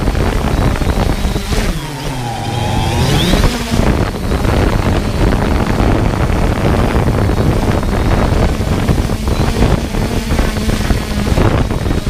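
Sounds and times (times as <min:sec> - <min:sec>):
drone rotor hum: 0:00.0 - 0:12.0
wind rushing on microphone: 0:00.0 - 0:12.0.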